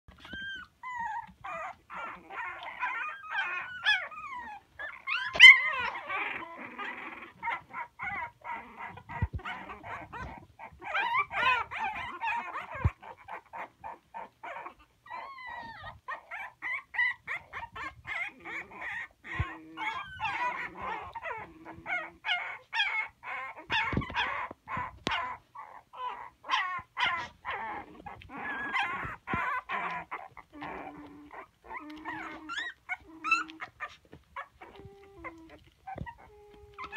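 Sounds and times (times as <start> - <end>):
puppies whining and yelping: 0.1 - 36.9.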